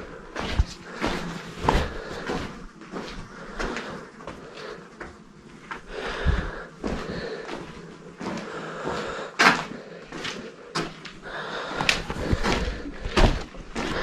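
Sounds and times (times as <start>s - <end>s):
footsteps on rocky dirt trail: 0.3s - 14.0s.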